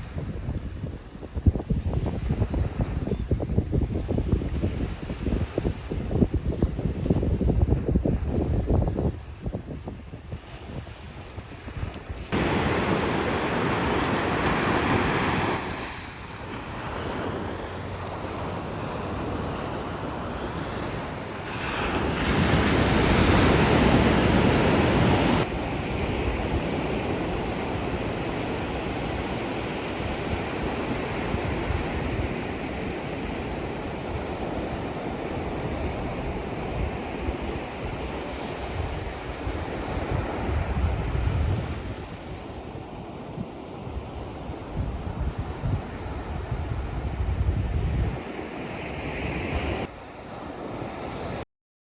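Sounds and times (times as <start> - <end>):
wind buffeting microphone: 0.0 - 29.4, 33.2 - 42.6, 43.8 - 48.3
ocean waves on shore: 9.8 - 51.4.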